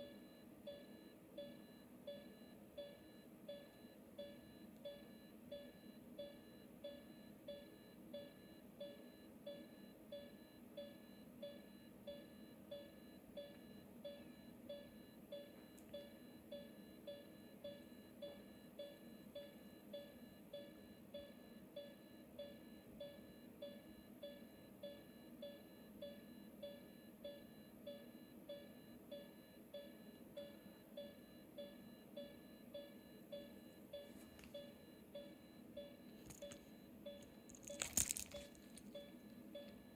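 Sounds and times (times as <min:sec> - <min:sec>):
heart monitor beeping: 0:00.0 - 0:39.9.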